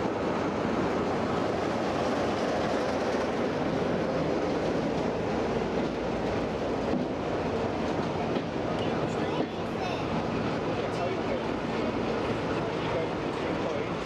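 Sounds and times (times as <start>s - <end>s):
locomotive engine drone: 0.0s - 14.0s
train wheels rumbling on rail: 0.0s - 14.0s.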